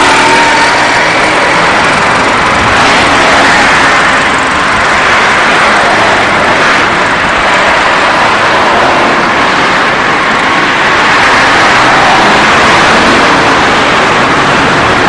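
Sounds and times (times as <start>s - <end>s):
car engine running: 0.0s - 15.0s
wind and road noise in car: 0.0s - 15.0s.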